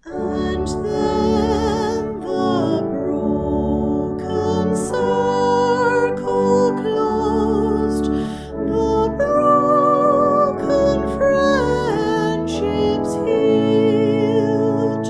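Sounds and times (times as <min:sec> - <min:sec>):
instrumental accompaniment: 0:00.0 - 0:15.0
slow hymn singing: 0:00.0 - 0:15.0.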